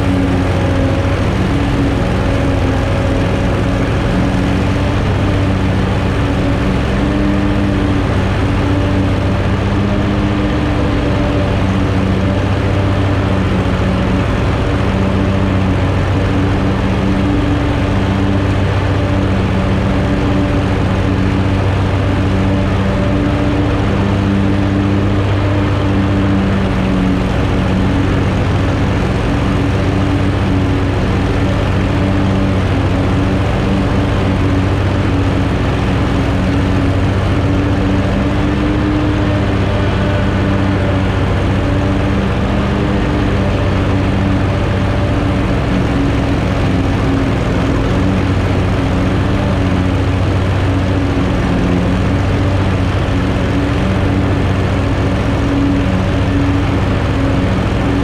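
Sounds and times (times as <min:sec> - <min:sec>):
lawn mower running: 0:00.0 - 0:58.0.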